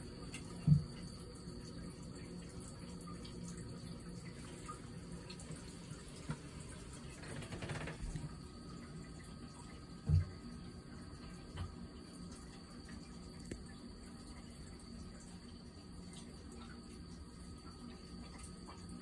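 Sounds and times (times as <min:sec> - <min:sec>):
water trickling into basin: 0:00.0 - 0:19.0.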